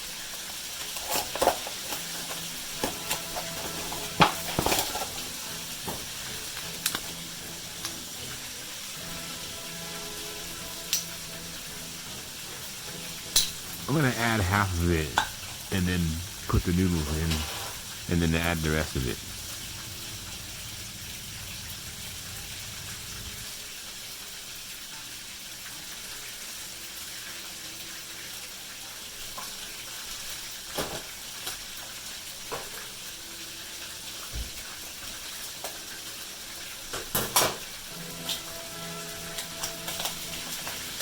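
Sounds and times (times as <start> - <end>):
sizzling in a frying pan: 0.0 - 41.0.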